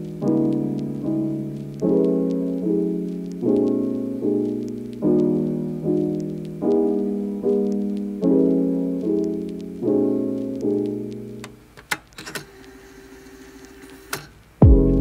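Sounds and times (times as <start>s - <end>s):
soft piano chords: 0.0s - 11.7s, 14.6s - 15.0s.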